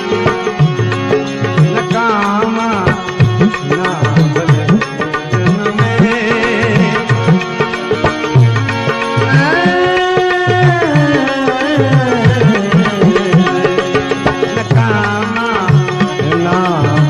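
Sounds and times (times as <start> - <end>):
tabla rhythm: 0.0 - 17.0.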